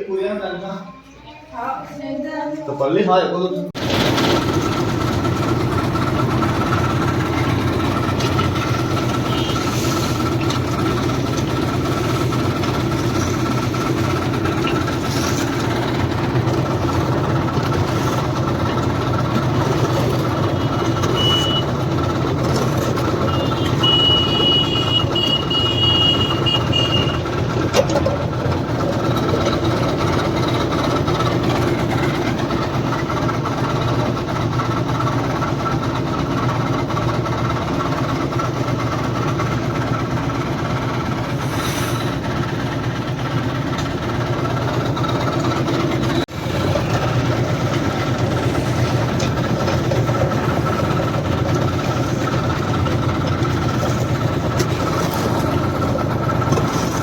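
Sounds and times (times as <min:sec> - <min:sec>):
diesel concrete mixer running: 0:02.8 - 0:57.0.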